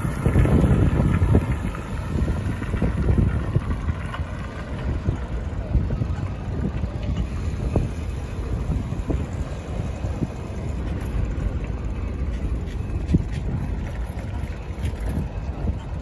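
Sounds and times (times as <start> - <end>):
city street traffic: 0.0 - 16.0
wind buffeting microphone: 0.0 - 16.0.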